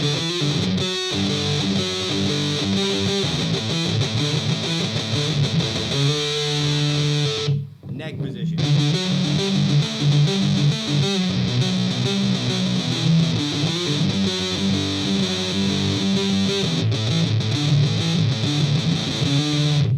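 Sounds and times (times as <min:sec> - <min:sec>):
distorted electric guitar riff: 0:00.0 - 0:19.9.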